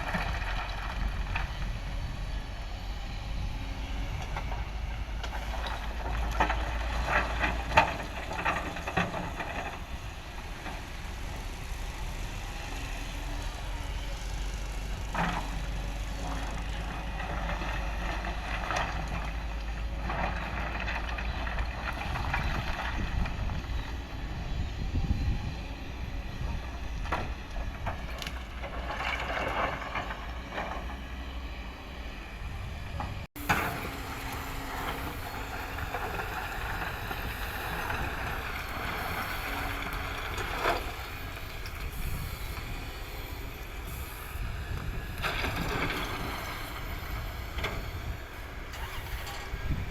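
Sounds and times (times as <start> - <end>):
excavator diesel engine rumble: 0.0 - 49.9.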